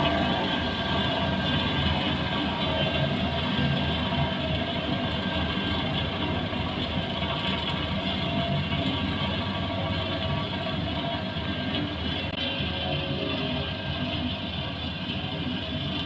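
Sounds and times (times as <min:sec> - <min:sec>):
heavy diesel machine running: 0:00.0 - 0:16.0.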